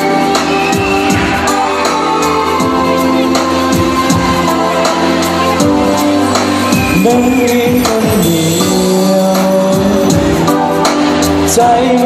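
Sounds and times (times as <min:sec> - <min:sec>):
live band music: 0:00.0 - 0:12.0
person singing: 0:00.0 - 0:12.0.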